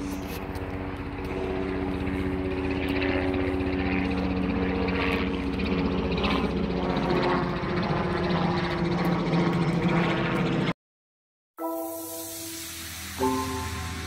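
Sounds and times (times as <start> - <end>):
engine drone with low throb: 0.0 - 10.8, 12.7 - 14.0.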